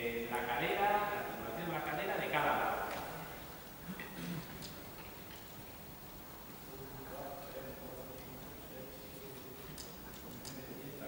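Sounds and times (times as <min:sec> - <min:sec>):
room noise: 0:00.0 - 0:11.0.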